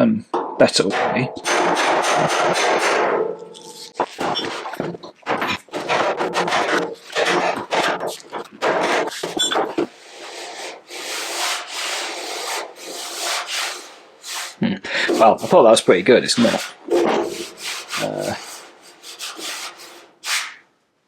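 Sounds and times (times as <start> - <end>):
abrasive rubbing on steel panel: 0.9 - 20.6.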